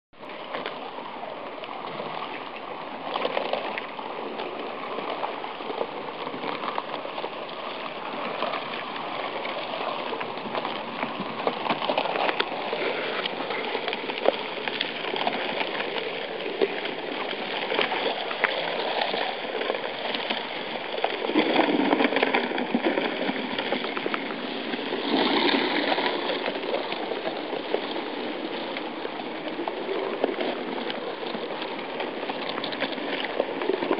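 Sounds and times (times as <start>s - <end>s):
river ice crackling and grinding: 0.2s - 33.9s.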